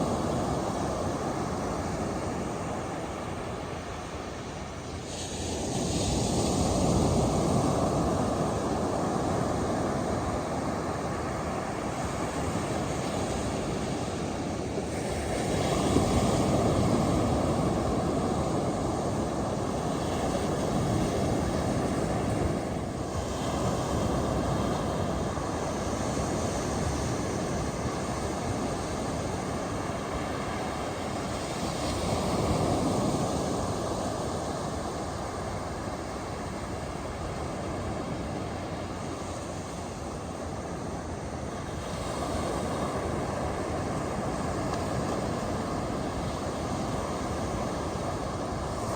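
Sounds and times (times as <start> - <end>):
ocean waves breaking on beach: 0.0 - 48.9.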